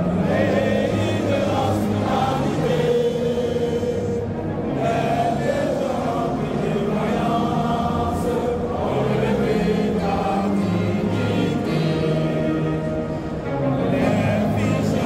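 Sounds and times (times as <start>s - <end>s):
choir singing long held notes: 0.0s - 15.0s.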